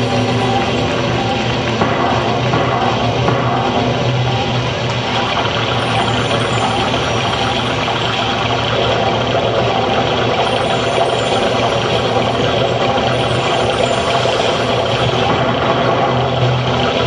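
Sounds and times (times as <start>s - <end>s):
loud dense background music: 0.0s - 17.0s.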